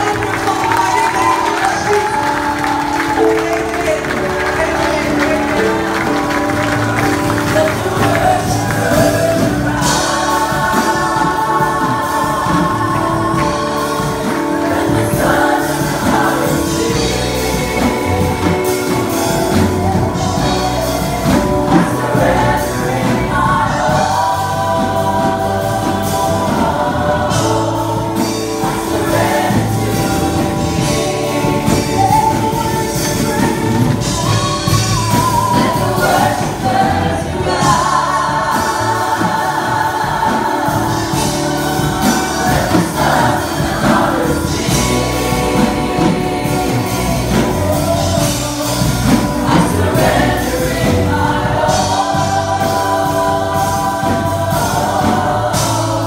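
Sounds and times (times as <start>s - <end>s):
band with drum kit: 0.0s - 56.0s
women singing gospel: 0.0s - 56.0s.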